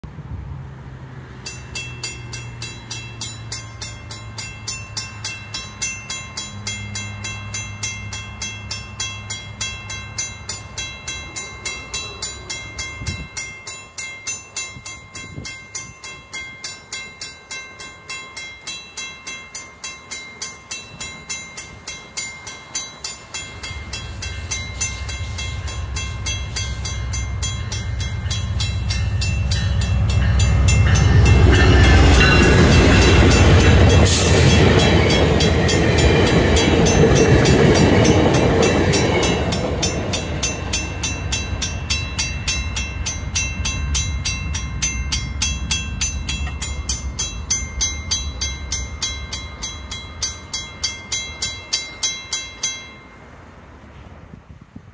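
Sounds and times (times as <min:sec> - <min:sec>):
passenger train passing: 0:00.0 - 0:54.9
level-crossing bell ringing: 0:01.5 - 0:53.5.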